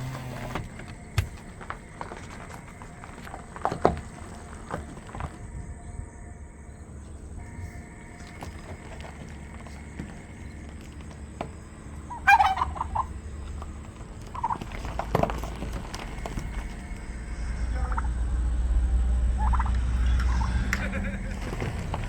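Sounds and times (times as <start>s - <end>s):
turkey gobbling: 0.3s - 5.4s, 7.0s - 22.0s
low rumble: 0.6s - 22.0s.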